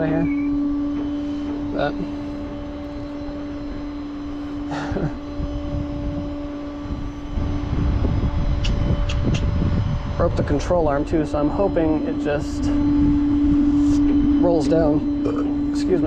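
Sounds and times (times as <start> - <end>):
low rumble of hydraulics: 0.0 - 16.0
truck engine hum: 0.0 - 16.0.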